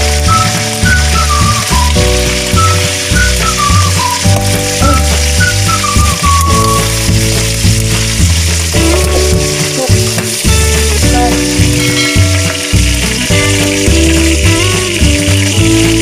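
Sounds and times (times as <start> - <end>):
background music with bass line: 0.0 - 16.0
meat sizzling in hot oil: 0.0 - 16.0.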